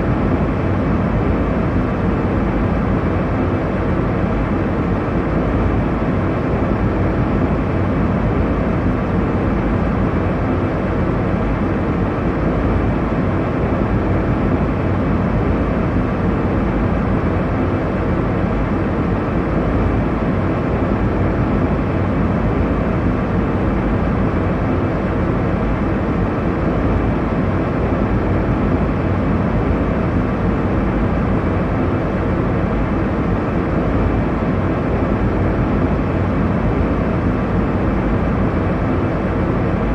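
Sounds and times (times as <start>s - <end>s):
airliner cabin engine and airflow rush: 0.0s - 39.9s.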